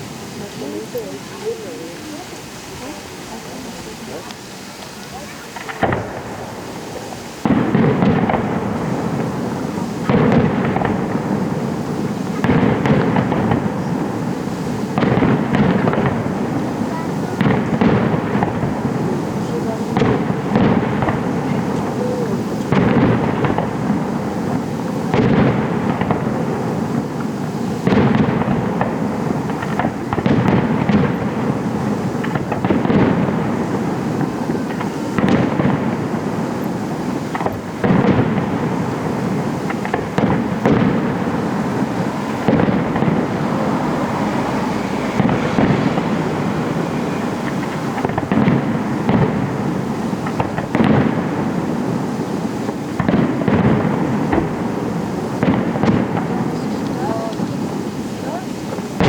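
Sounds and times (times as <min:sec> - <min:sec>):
firework shells booming: 0:00.0 - 0:59.0
fireworks crackling: 0:00.0 - 0:59.0.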